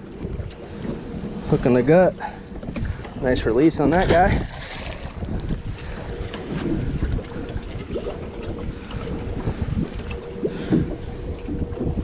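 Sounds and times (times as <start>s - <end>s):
steady low hum: 0.0s - 12.0s
water sloshing at hull: 0.0s - 12.0s
wind buffeting microphone: 0.0s - 12.0s.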